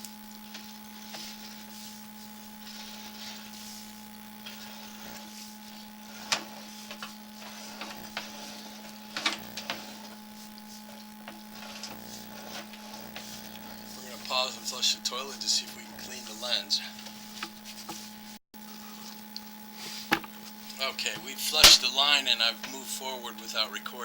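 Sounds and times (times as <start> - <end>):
electrical hum and hiss: 0.0 - 24.0.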